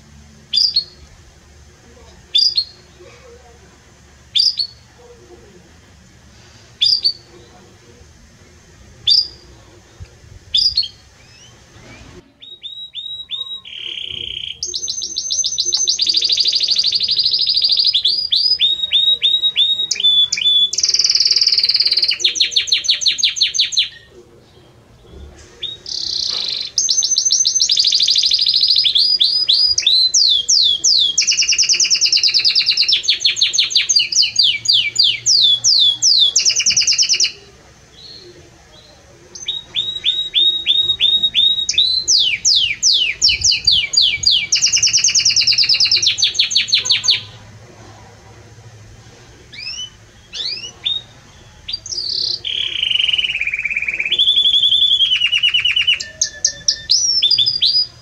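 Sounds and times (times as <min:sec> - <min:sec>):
canary singing trills: 0:00.0 - 0:47.6, 0:49.5 - 0:58.0.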